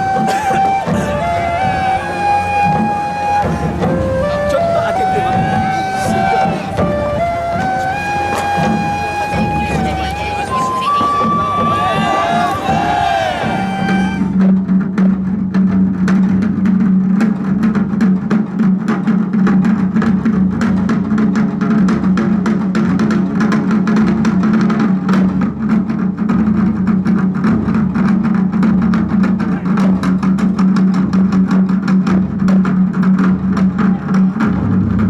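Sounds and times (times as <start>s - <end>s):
drums: 0.0s - 35.0s
rapid percussive strikes: 0.0s - 35.0s.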